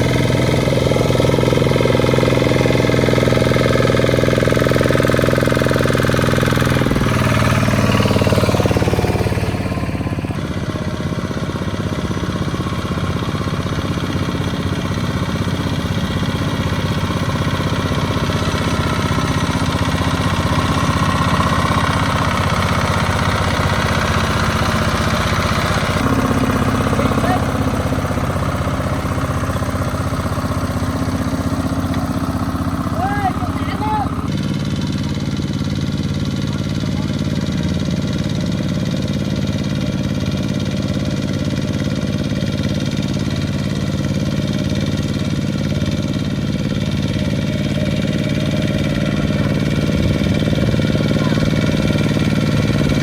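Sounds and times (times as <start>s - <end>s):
tractor engine knocking: 0.0s - 53.0s.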